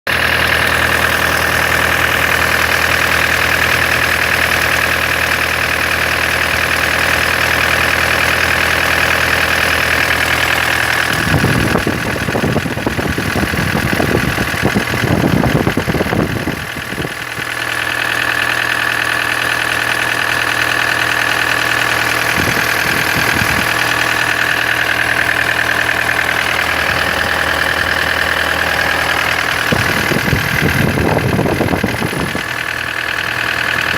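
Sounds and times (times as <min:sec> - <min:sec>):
rough irregular engine noise: 0:00.0 - 0:33.9
diesel engine idling: 0:00.1 - 0:33.9.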